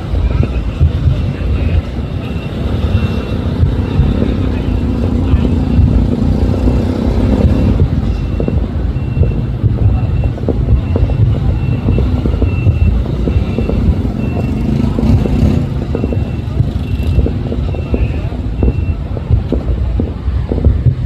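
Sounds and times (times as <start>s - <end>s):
road traffic rumble: 0.0s - 21.0s
reversing alarm beeping: 0.3s - 19.2s.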